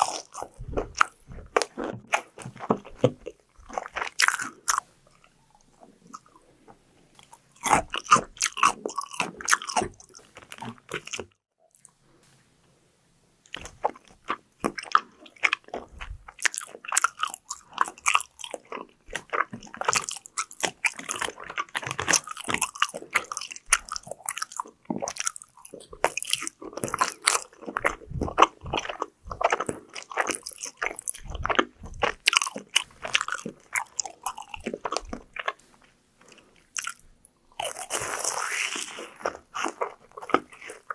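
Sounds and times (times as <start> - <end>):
crunchy food chewing: 0.0 - 12.0, 13.4 - 40.9.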